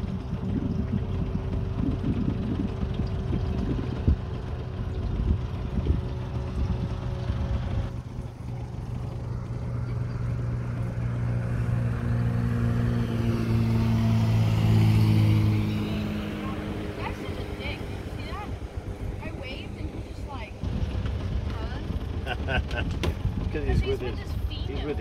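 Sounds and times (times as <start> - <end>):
outboard motor humming: 0.0 - 25.0
uneven low rumbling: 0.0 - 25.0.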